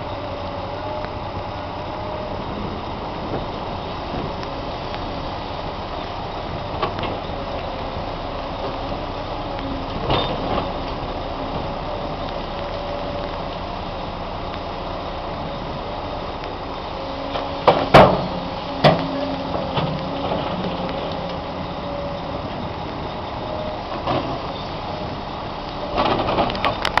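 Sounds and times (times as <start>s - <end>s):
excavator engine and hydraulics: 0.0s - 27.0s.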